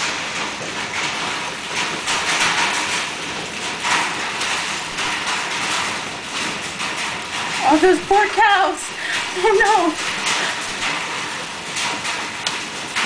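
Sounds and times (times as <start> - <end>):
hailstones pelting concrete: 0.0 - 13.0.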